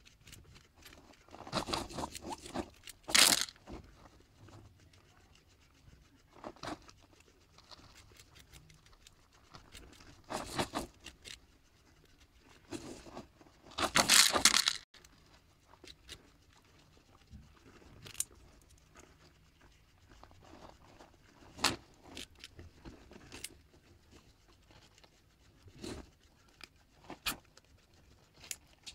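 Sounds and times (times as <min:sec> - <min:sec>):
guinea pigs crunching carrot: 0:00.0 - 0:28.9.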